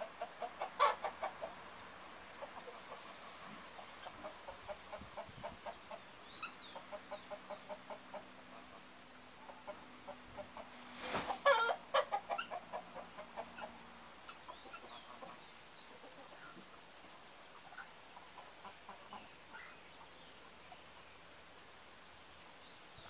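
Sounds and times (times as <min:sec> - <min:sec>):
poultry clucking: 0:00.0 - 0:21.0.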